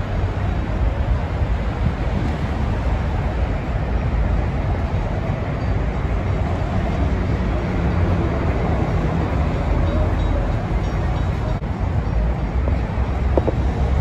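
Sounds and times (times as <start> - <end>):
highway traffic noise: 0.0 - 14.0.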